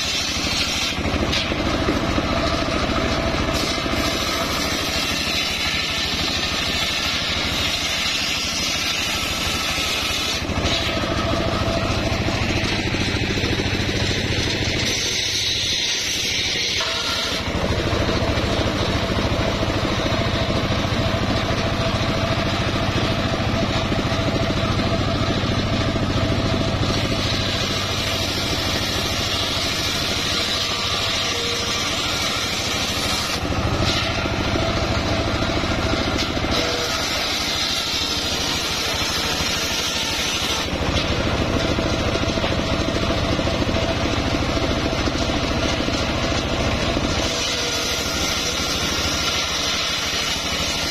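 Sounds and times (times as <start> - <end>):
circular saw cutting planks: 0.0 - 50.9
engine running steadily: 0.0 - 50.9.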